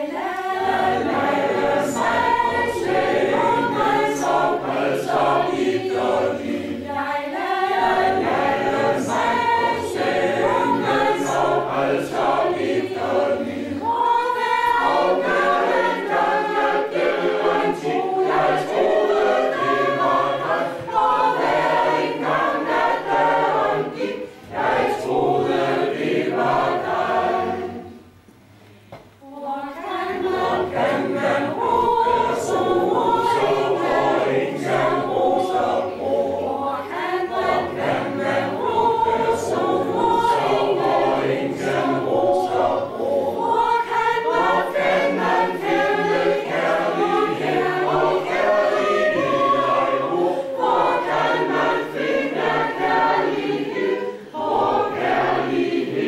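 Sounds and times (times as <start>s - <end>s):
mixed choir singing: 0.0s - 28.3s, 29.2s - 56.0s.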